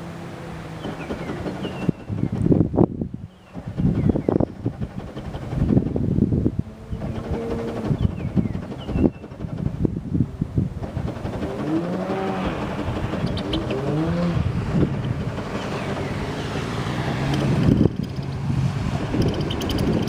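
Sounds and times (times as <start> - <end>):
jet ski engine running: 0.0 - 20.0.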